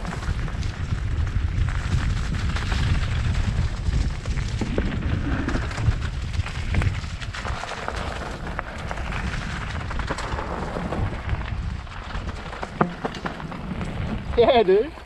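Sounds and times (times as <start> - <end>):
bike rattling over bumps: 0.0 - 15.0
tyres rumbling on dirt: 0.0 - 15.0
wind rushing over microphone: 0.0 - 15.0.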